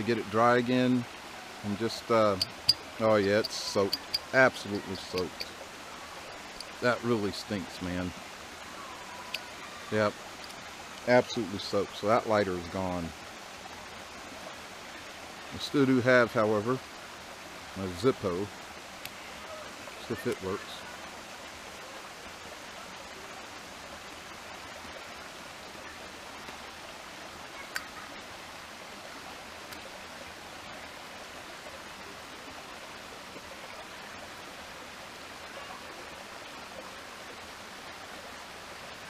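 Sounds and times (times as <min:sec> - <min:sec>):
creek flowing: 0:00.0 - 0:39.0.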